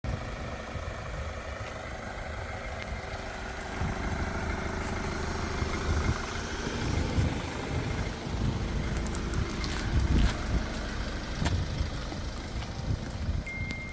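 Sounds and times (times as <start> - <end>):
diesel engine rumbling: 0.0 - 13.9.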